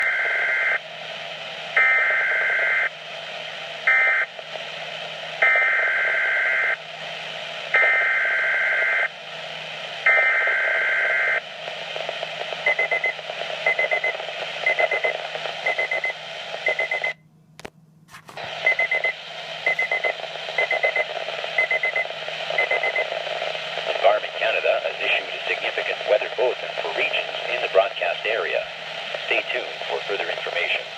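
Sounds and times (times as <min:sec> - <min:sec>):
radio static: 0:00.0 - 0:06.1, 0:08.7 - 0:17.1, 0:18.3 - 0:30.9.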